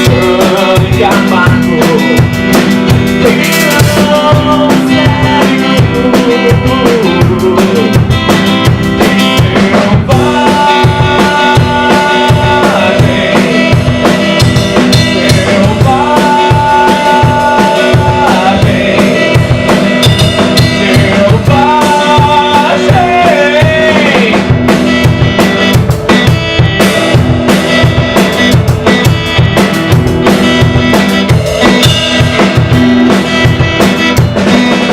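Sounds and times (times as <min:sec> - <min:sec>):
drum kit playing a steady beat: 0:00.0 - 0:34.9.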